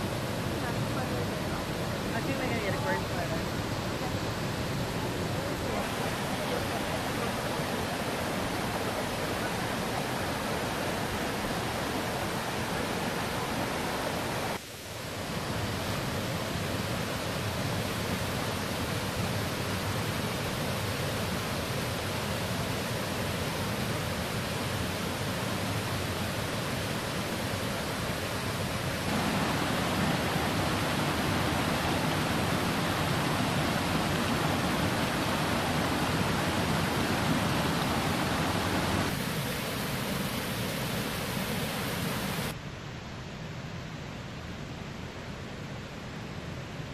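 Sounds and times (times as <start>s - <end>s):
waterfall rushing into pools: 0.0s - 42.6s.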